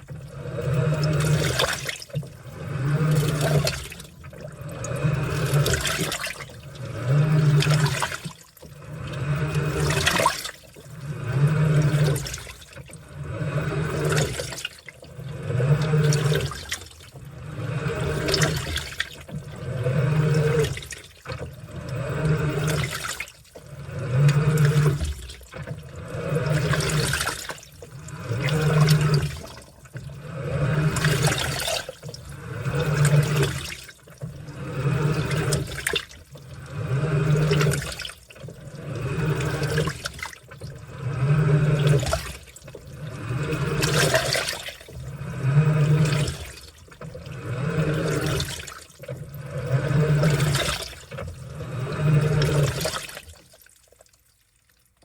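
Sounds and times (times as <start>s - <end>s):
washing machine motor humming: 0.0s - 53.8s
water sloshing in washing machine: 0.0s - 55.0s.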